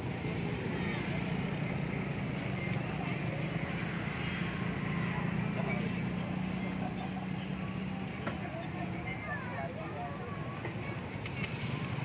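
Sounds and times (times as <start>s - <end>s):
crowd talking: 0.0s - 12.0s.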